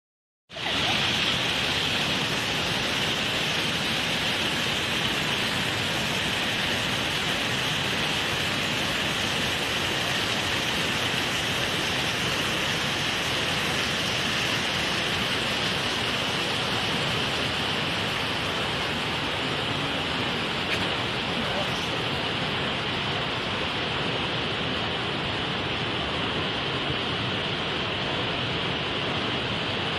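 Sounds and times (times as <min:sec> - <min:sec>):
waterfall rushing: 0:00.5 - 0:29.9.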